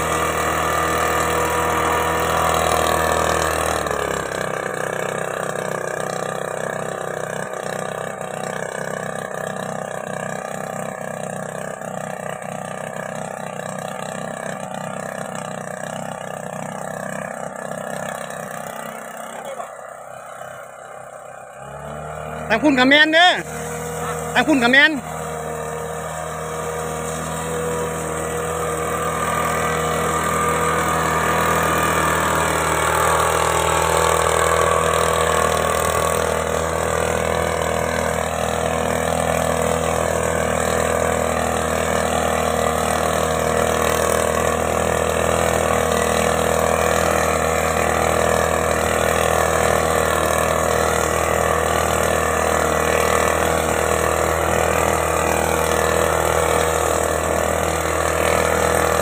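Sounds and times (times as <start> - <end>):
backpack blower engine running: 0.0 - 59.0.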